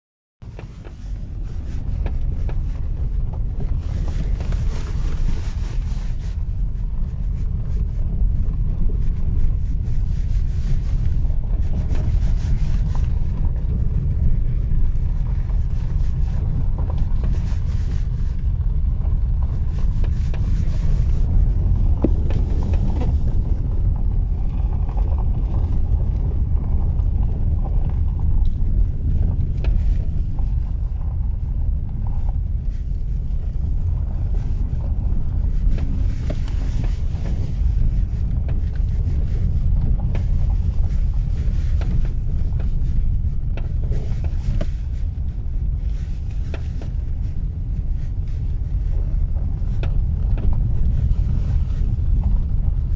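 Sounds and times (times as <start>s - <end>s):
road and wind noise: 0.4s - 52.9s.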